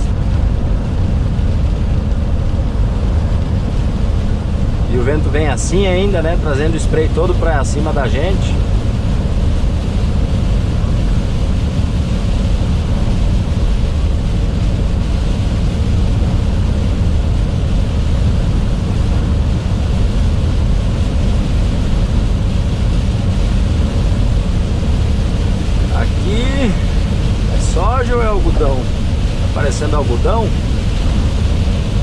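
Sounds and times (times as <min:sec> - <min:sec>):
heavy rain: 0:00.0 - 0:32.0
truck engine and tyre noise: 0:00.0 - 0:32.0
wind: 0:00.0 - 0:32.0.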